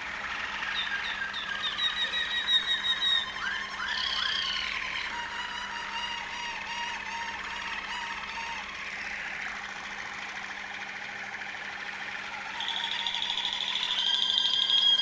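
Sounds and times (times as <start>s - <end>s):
canary singing: 0.0s - 9.6s, 12.3s - 15.0s.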